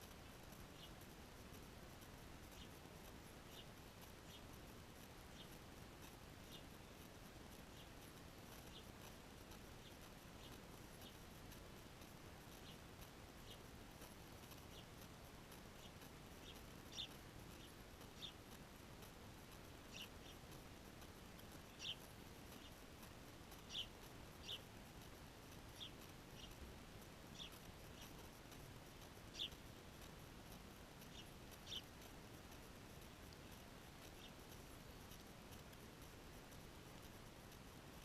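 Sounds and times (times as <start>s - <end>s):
background hiss: 0.0s - 38.0s
small birds chirping: 0.0s - 38.0s.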